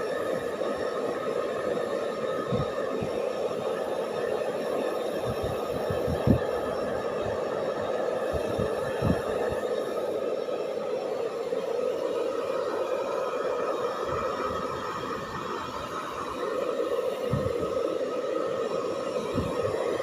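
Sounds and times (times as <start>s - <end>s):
hair dryer blowing: 0.0s - 20.0s.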